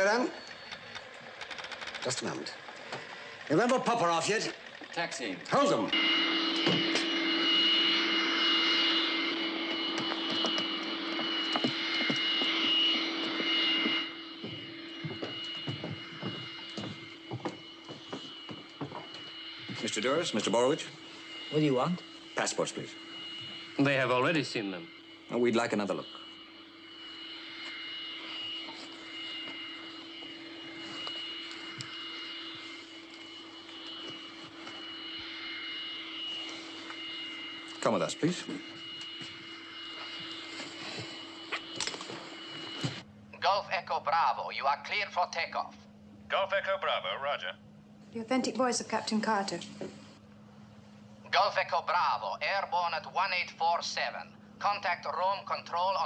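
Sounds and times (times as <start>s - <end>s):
jet engines idling: 0.0s - 56.0s.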